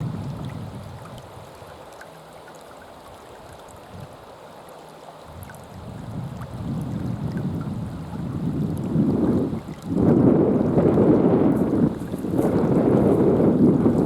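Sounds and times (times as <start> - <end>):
wind buffeting microphone: 0.0 - 1.8, 3.4 - 4.2, 5.2 - 14.0
river water flowing: 0.0 - 14.0.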